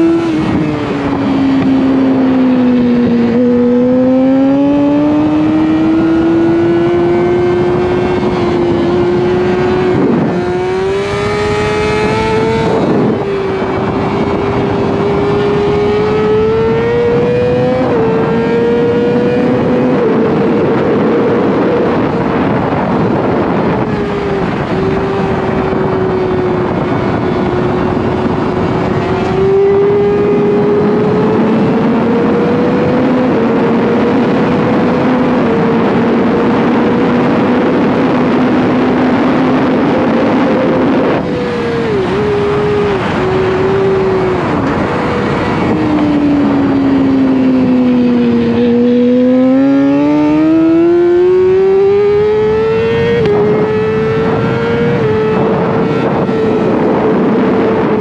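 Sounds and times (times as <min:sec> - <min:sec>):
motorcycle engine at high revs: 0:00.0 - 0:58.0
wind rushing: 0:00.0 - 0:58.0.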